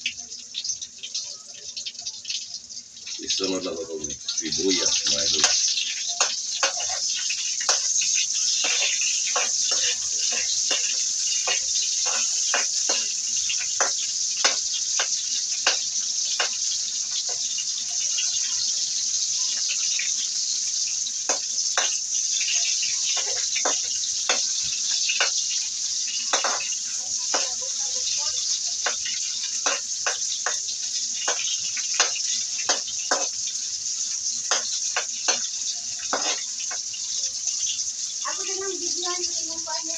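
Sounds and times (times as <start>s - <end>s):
garlic and onion sizzling in oil: 0.0s - 39.9s
metal spoon scraping a pan: 4.1s - 37.8s.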